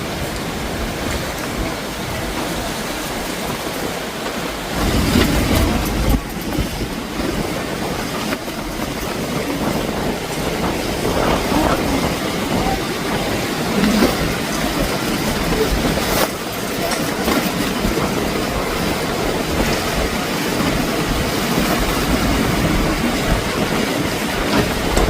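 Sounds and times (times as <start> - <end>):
vehicle rumbling and rattling: 0.0 - 25.0.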